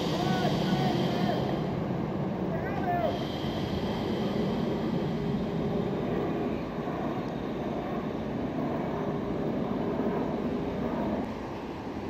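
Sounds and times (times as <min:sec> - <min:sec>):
train wheels running on rails: 0:00.0 - 0:12.0.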